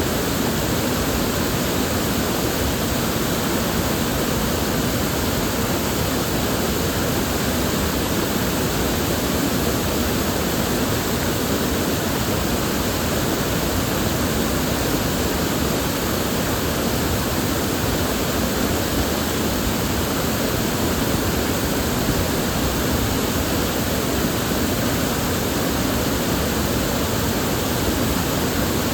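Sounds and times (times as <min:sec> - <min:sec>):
river water flowing: 0:00.0 - 0:28.9.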